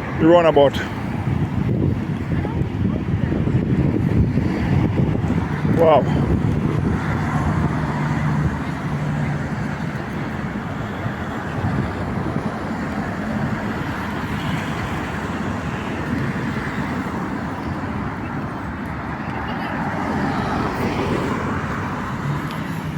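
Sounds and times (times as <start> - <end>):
car engines passing: 0.0 - 22.9.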